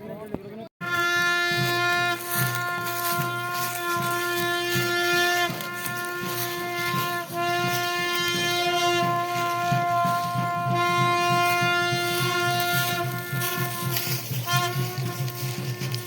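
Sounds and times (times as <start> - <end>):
rhythmic low beat: 0.8 - 16.0
wind instrument long held notes: 0.8 - 16.0.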